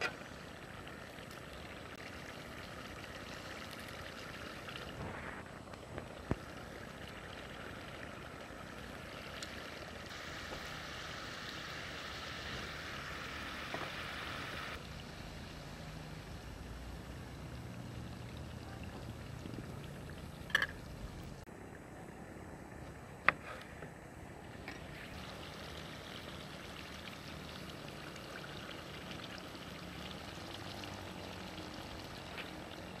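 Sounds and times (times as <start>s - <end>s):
food sizzling and bubbling in pot: 0.0s - 33.0s.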